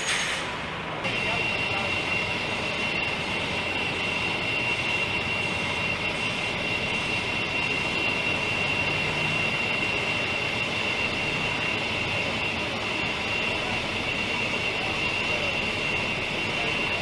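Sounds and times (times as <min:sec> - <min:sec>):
high-pitched whine: 0:00.0 - 0:17.0
lorry diesel engine running: 0:00.0 - 0:17.0.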